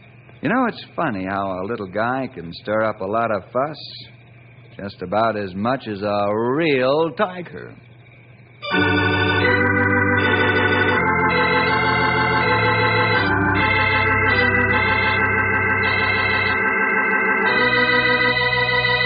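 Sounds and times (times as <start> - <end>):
organ sustained chords: 0.0 - 19.0.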